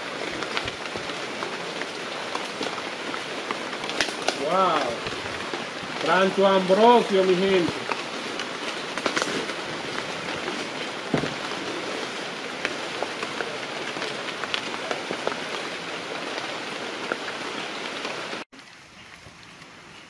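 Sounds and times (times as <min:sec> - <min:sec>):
raindrop ticks: 0:00.0 - 0:18.4
rain falling: 0:00.0 - 0:20.0.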